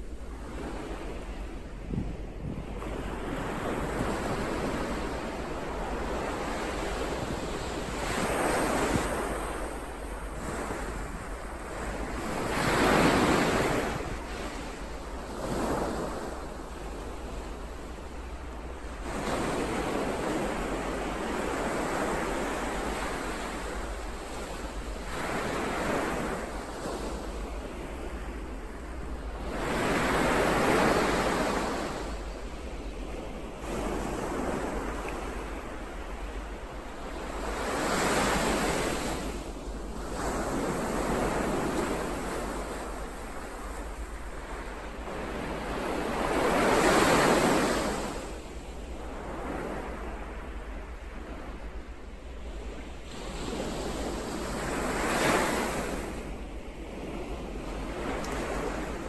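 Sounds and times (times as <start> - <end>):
waves breaking: 0.0 - 59.0.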